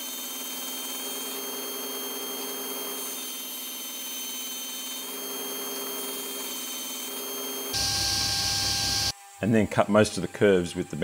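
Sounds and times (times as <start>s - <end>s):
table saw cutting wood: 0.0s - 11.0s.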